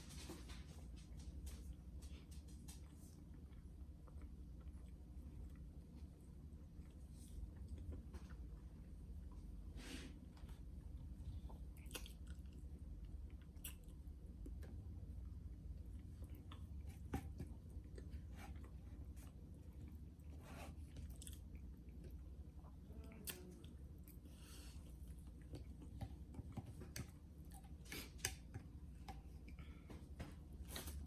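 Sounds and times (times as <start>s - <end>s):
steady low hum: 0.0s - 31.0s
person chewing food: 2.8s - 9.6s, 10.3s - 30.2s.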